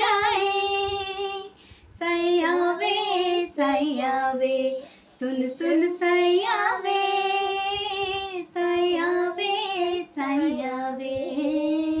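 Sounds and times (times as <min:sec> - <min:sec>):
woman and boy singing unaccompanied: 0:00.0 - 0:12.0.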